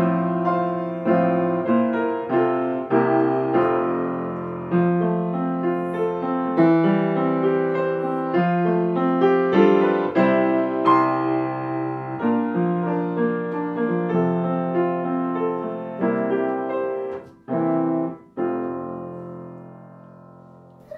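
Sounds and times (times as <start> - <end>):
solo piano playing: 0.0 - 20.9.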